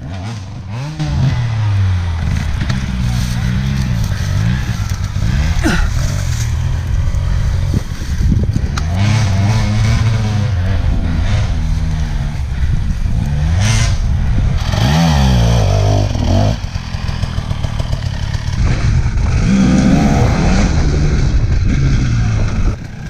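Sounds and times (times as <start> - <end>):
dirt bike engine idling and revving: 0.0 - 23.0.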